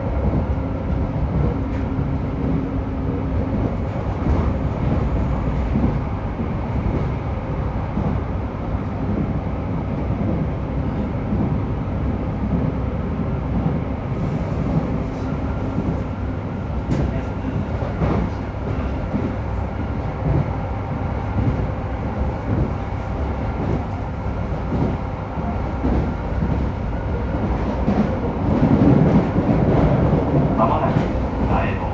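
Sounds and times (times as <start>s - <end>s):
train wheels rumbling: 0.0s - 31.9s.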